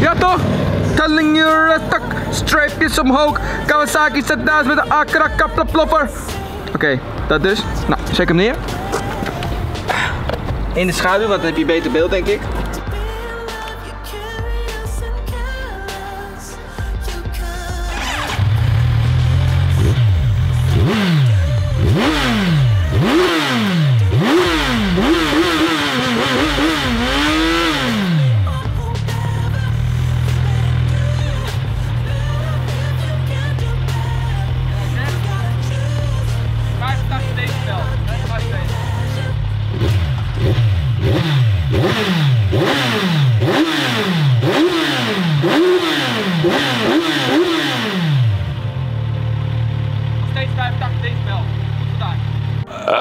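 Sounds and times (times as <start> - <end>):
motorcycle engine idling: 0.0 - 13.5, 16.8 - 52.7
motorcycle engine revving: 0.0 - 13.7, 17.7 - 53.0.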